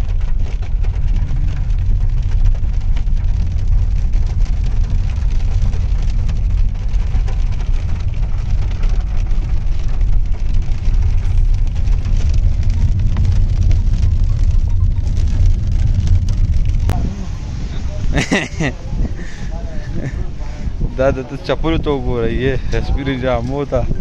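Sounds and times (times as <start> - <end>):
engine and road noise: 0.0 - 24.0
rain hitting a car: 0.0 - 24.0.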